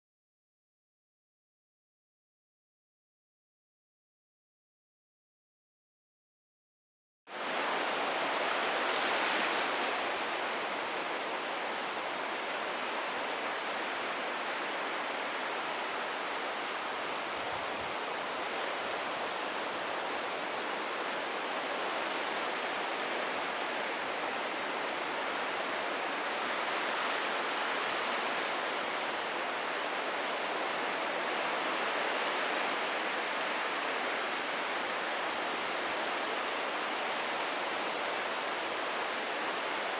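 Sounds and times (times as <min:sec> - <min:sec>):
ocean surf washing on beach: 0:07.3 - 0:39.9.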